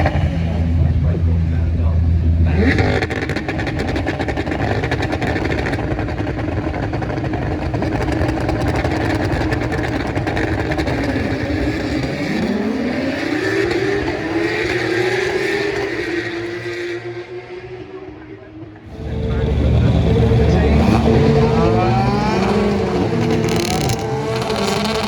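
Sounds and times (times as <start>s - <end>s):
car engine accelerating: 0.0s - 25.0s
racing car engines running hard: 0.0s - 25.0s.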